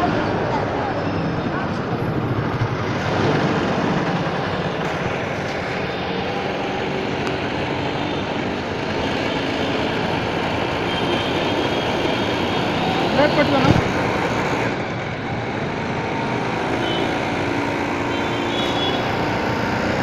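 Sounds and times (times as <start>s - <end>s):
scooter engine running steadily: 0.0s - 20.0s.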